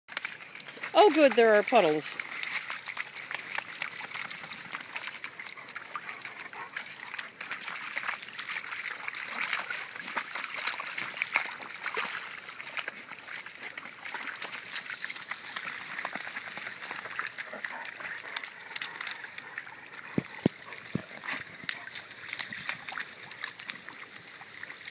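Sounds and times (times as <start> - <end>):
dogs splashing through puddle: 0.1 - 24.9.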